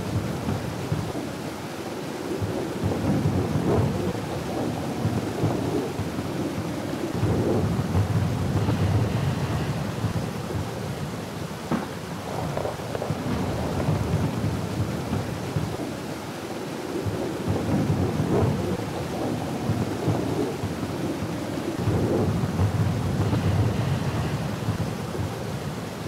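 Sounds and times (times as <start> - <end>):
steady rain: 0.0 - 26.0
rolling thunder: 2.3 - 26.0.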